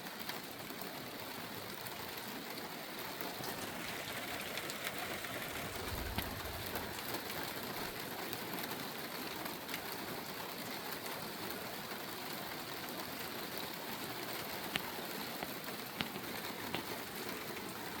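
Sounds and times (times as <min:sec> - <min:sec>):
raindrops ticking: 0:00.0 - 0:18.0
steady rain falling: 0:00.0 - 0:18.0.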